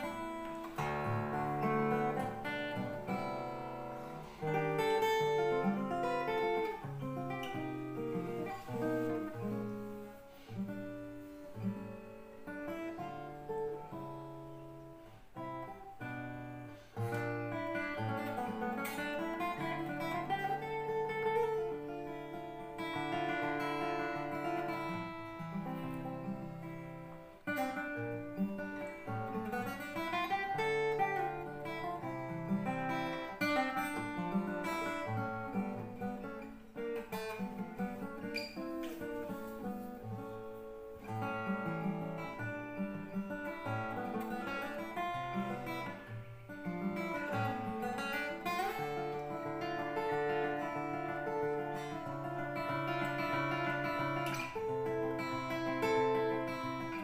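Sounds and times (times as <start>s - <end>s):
fingerstyle acoustic guitar: 0.0s - 57.0s.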